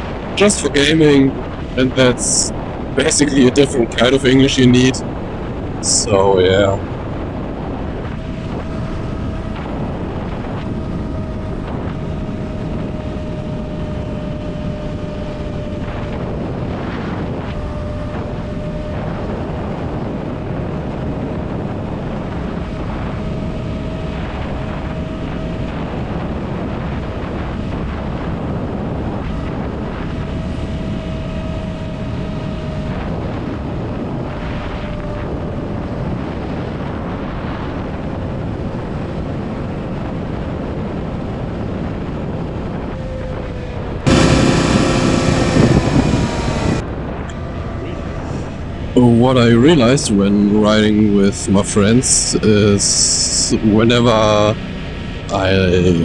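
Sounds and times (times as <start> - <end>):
wind rushing over microphone: 0.0 - 56.0
motorcycle engine cruising: 5.2 - 28.3, 29.2 - 36.8, 41.2 - 56.0.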